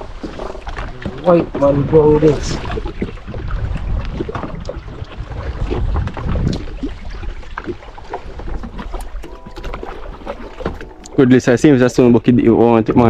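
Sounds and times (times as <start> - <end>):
knocks and splashy clicks: 0.0 - 11.2.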